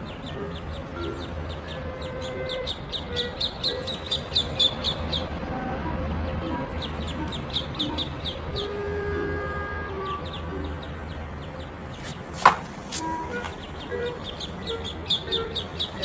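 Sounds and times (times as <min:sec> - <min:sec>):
bird peeping: 0:00.0 - 0:05.4, 0:06.4 - 0:08.8, 0:09.9 - 0:16.0.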